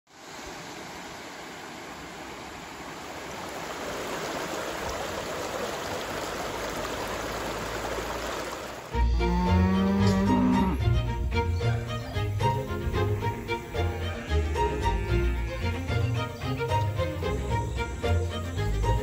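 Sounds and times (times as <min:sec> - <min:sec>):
creek water flowing: 0:00.1 - 0:19.0.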